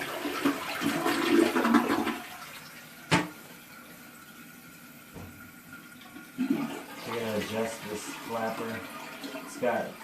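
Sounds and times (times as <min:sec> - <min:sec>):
toilet flushing: 0:00.0 - 0:10.0.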